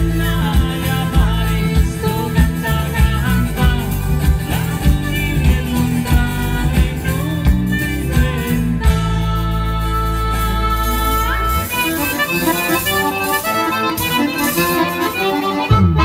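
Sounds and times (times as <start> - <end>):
button accordion playing: 0.0 - 16.0
percussion beat: 0.0 - 16.0.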